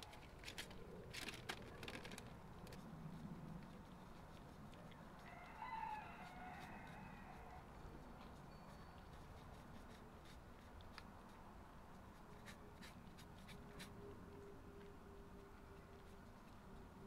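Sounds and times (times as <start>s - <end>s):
cats chewing and licking: 0.0s - 17.0s.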